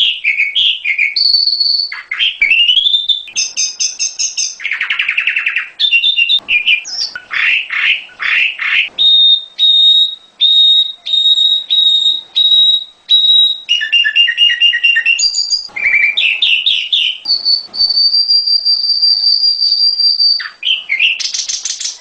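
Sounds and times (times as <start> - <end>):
songbird whistling song: 0.0 - 22.0.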